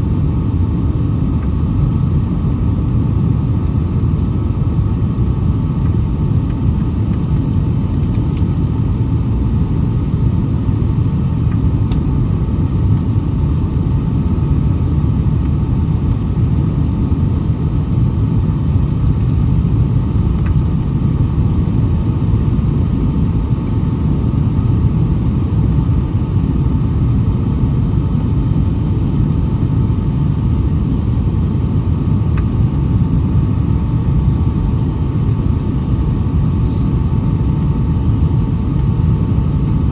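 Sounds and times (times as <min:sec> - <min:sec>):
airliner cabin engine rumble: 0:00.0 - 0:39.9
faint steady whine: 0:00.0 - 0:39.9.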